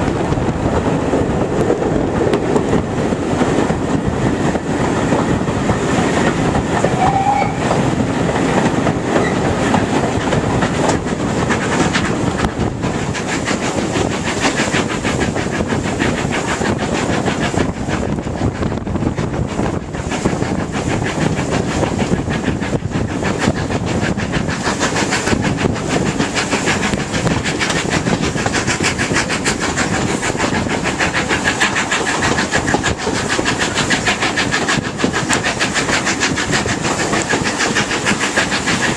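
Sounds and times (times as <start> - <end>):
rushing air noise: 0.0 - 38.9
train wheels clattering over rail joints: 0.0 - 38.9.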